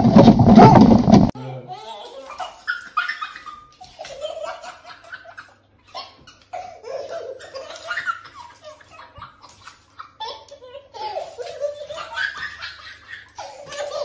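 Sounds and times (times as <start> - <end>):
baby laughing and giggling: 1.4 - 14.0.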